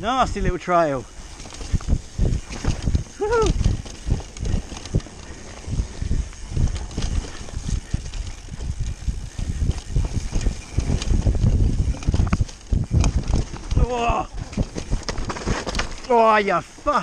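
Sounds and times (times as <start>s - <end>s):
wind buffeting microphone: 0.0s - 16.2s
bike tyres rumbling over dirt: 0.0s - 17.0s
bike thumps and rattles: 1.2s - 16.4s.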